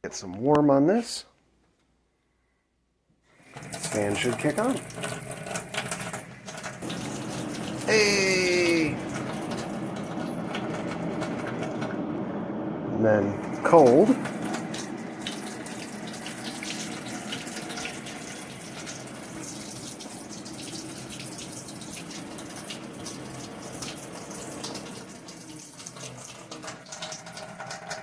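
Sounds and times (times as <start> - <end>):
water running from a tap: 3.3 - 12.0, 13.2 - 28.0.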